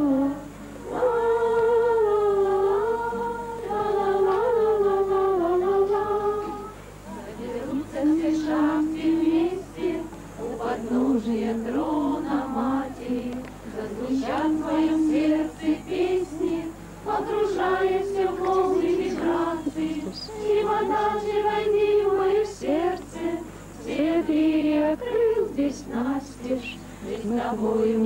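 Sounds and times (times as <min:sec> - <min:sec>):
people singing together: 0:00.0 - 0:28.0.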